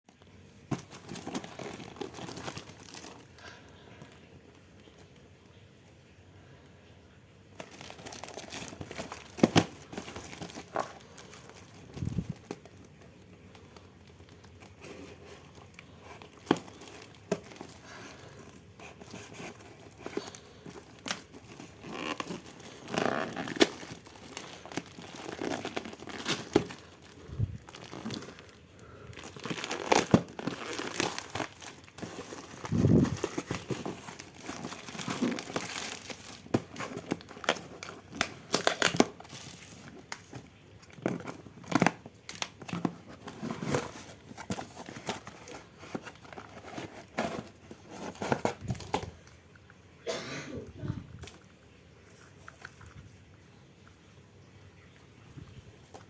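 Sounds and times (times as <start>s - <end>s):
packaging rustling and crinkling: 0.2s - 5.2s, 7.5s - 49.5s.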